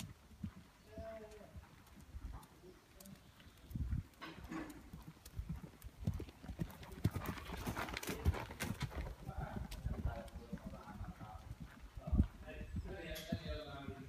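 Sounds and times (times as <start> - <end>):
hoofbeats on soft ground: 0.0 - 14.0.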